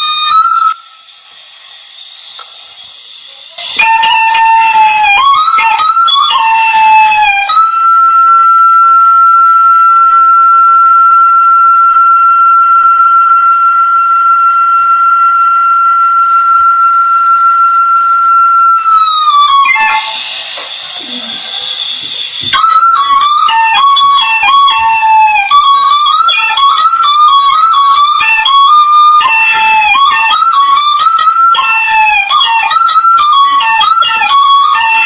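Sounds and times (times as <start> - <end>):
bamboo flute playing: 0.0 - 35.0.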